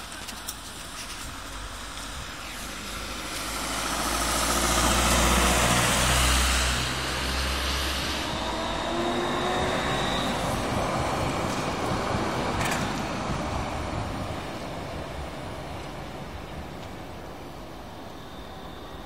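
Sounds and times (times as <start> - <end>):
tram rumbling past on rails: 0.0 - 19.0
thin whining tones: 1.0 - 19.0.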